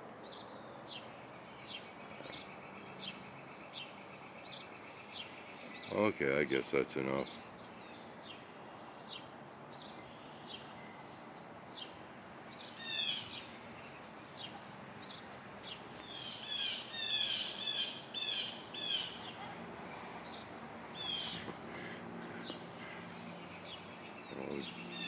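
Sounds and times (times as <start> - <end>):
blue jays scolding calls: 1.7 - 12.0, 12.6 - 25.0.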